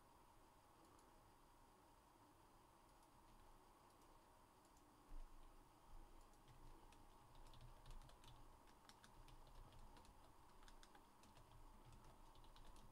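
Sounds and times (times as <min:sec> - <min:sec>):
faint keyboard typing: 0:00.8 - 0:01.2, 0:02.8 - 0:12.9.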